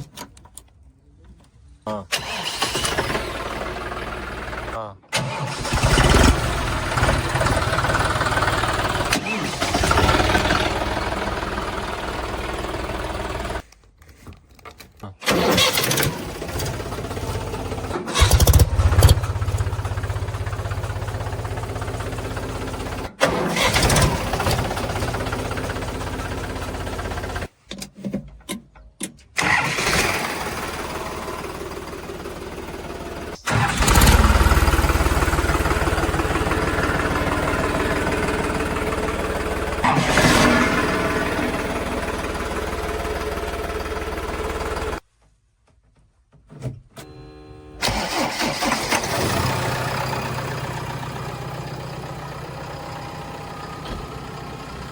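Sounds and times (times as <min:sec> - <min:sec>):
heavy machinery diesel engines: 0:02.1 - 0:13.6, 0:15.3 - 0:27.5, 0:29.4 - 0:45.0, 0:47.8 - 0:54.9.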